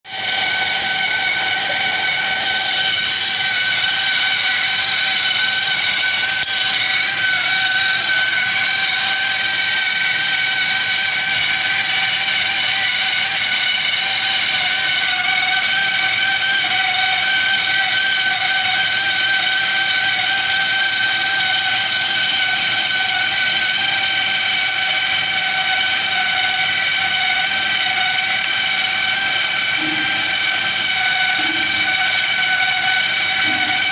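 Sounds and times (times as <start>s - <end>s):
drill motor whining: 0.0s - 33.9s.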